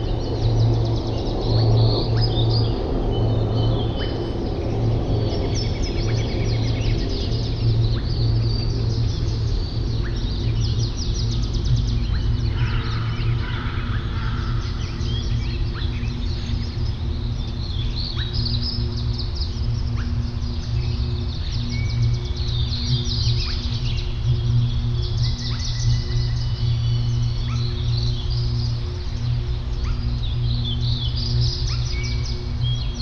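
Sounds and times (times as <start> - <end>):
songbirds chirping and trilling: 0.0 - 33.0
steady low hum: 0.0 - 33.0.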